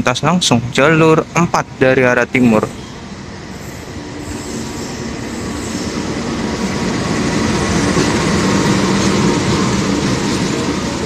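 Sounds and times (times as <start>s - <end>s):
train wheels on rails: 0.0s - 11.0s
locomotive engine: 1.0s - 11.0s.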